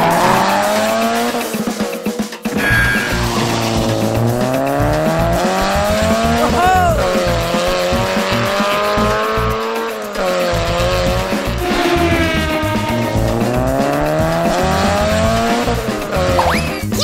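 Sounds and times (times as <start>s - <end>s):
car engine revving: 0.0s - 1.8s, 2.5s - 17.0s
background music: 0.0s - 17.0s.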